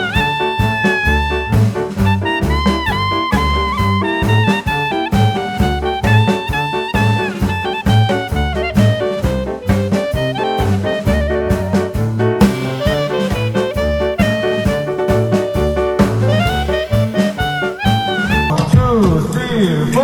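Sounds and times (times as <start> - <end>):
upbeat swing jazz music: 0.0 - 18.5.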